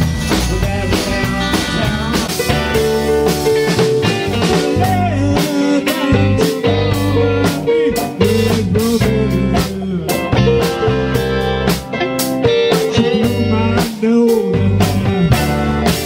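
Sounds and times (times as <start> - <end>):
bass guitar: 0.0 - 16.0
drums: 0.0 - 16.0
electric guitar bending notes: 0.0 - 16.0.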